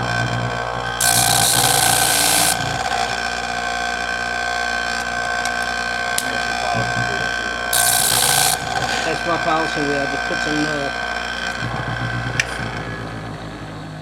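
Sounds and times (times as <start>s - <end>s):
blade grinding on wheel: 0.0s - 13.5s
electric motor running: 0.0s - 13.9s.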